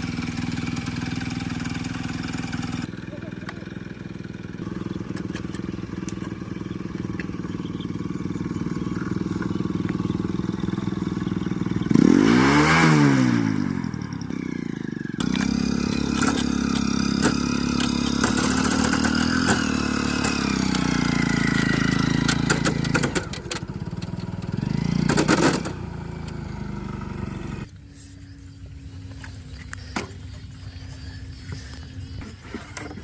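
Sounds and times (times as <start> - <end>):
engine running steadily: 0.0 - 33.0
engine with light clattering: 0.0 - 33.0.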